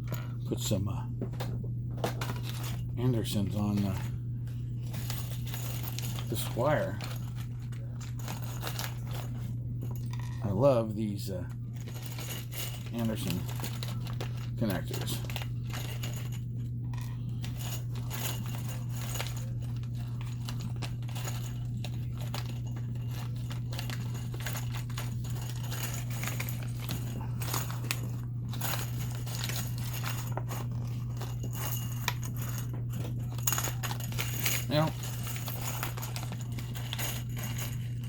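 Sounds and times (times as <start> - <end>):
steady low hum: 0.0 - 38.0
small parts clicking and rattling: 1.4 - 10.8, 11.4 - 38.0.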